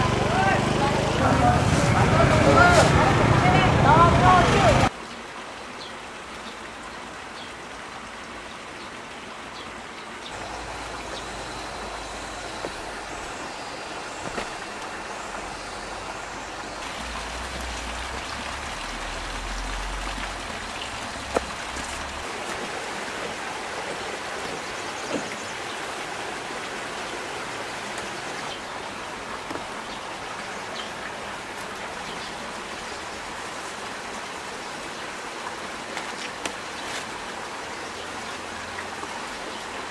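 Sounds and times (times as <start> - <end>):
heavy rain falling: 0.0 - 5.0, 10.3 - 39.9.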